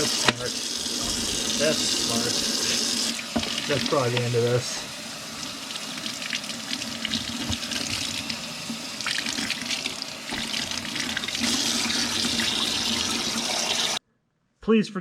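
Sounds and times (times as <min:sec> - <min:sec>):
tap water splashing in a sink: 0:00.0 - 0:04.7, 0:05.3 - 0:14.0.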